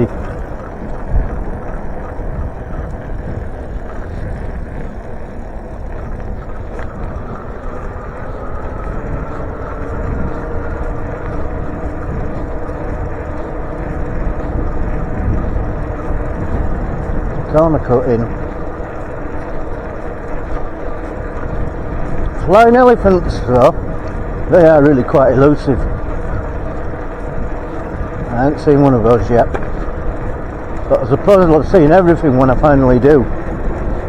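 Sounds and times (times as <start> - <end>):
bicycle tyre noise on road: 0.0 - 34.0
wind rumble: 0.0 - 34.0.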